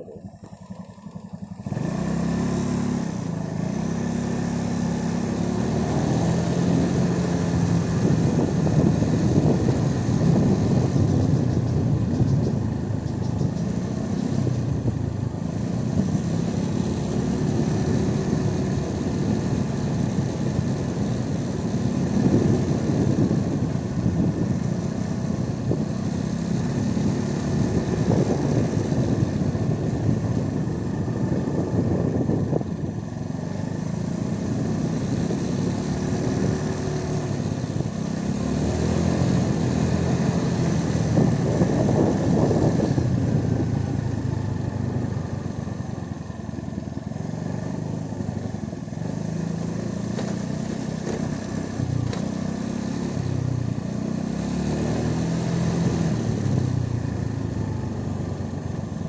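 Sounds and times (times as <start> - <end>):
small vehicle engine running: 0.0 - 59.0
wind rumble on microphone: 1.6 - 59.0.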